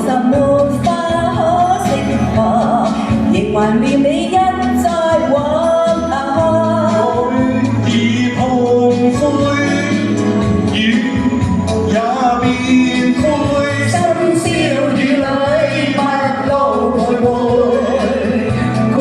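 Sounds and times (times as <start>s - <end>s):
person singing with vibrato: 0.0s - 19.0s
steady bass notes: 0.0s - 19.0s.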